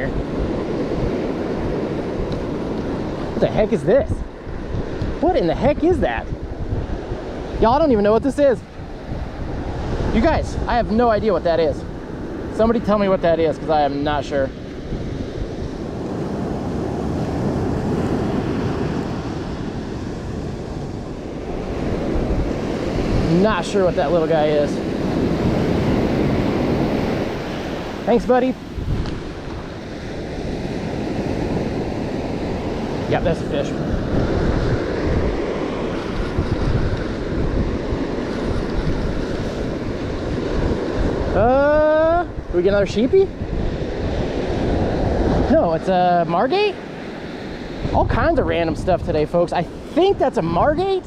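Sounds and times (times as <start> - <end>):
ocean surf washing onto beach: 0.0 - 51.0
wind buffeting microphone: 0.0 - 51.0.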